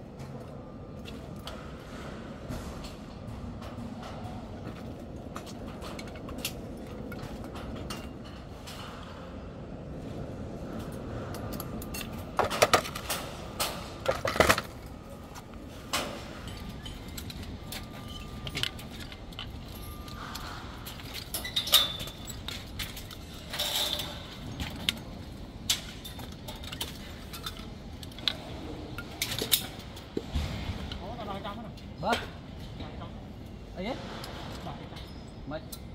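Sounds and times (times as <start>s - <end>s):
low rumble of site noise: 0.0s - 35.9s.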